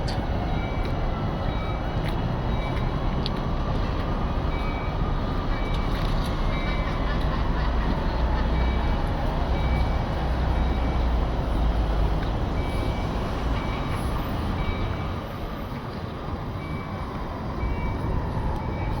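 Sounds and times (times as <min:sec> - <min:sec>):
city traffic noise: 0:00.0 - 0:19.0.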